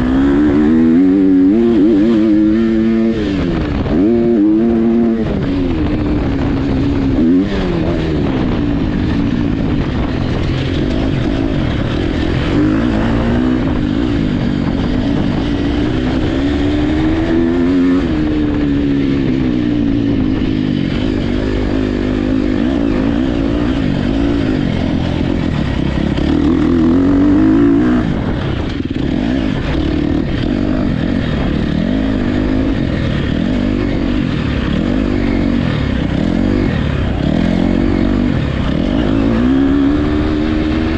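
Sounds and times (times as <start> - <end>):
dirt bike engines racing: 0.0 - 40.9.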